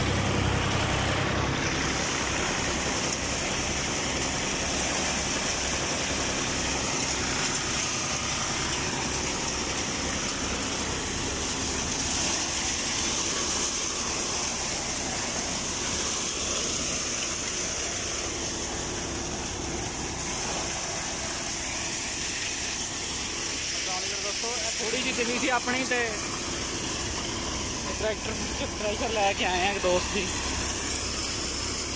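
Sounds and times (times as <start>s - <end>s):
threshing machine running: 0.0s - 31.9s
tractor engine low throb: 0.0s - 31.9s.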